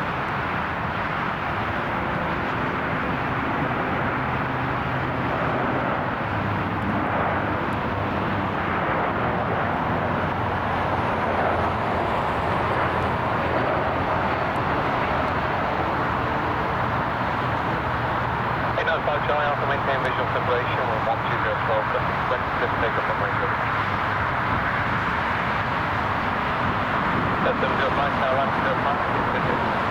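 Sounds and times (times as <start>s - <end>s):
jet engines rushing: 0.0s - 29.9s.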